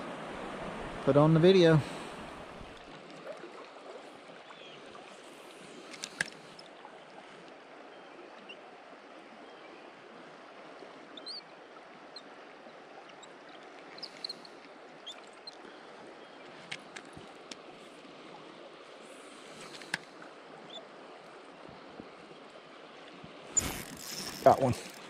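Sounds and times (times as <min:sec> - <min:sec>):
creek running over riffles: 0:00.0 - 0:25.0.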